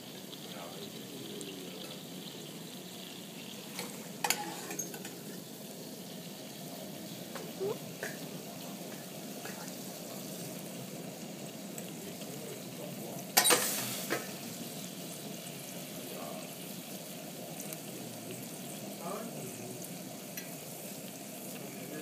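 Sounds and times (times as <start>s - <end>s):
sauce sizzling in a pan: 0.0s - 22.0s.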